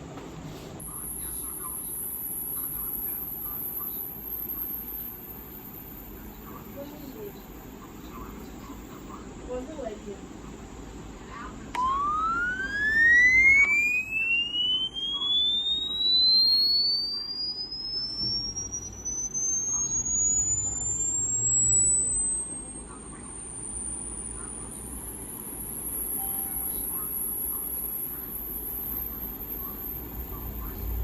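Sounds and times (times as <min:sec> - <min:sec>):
sine tone sweeping upward: 0:00.8 - 0:07.6, 0:11.7 - 0:31.0.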